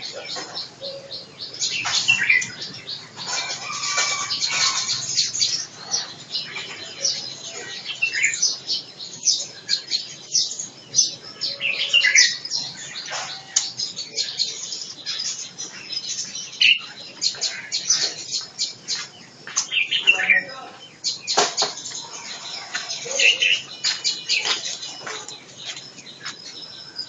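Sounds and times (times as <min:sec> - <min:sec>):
small songbirds chirping: 0:00.0 - 0:27.0.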